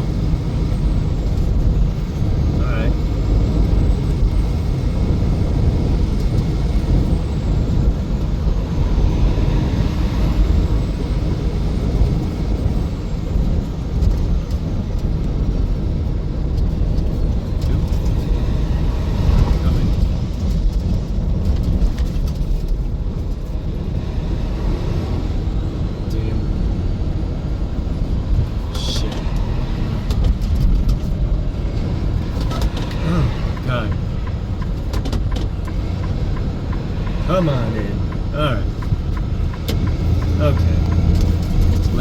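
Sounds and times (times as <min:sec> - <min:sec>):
road and engine rumble inside vehicle: 0:00.0 - 0:42.0.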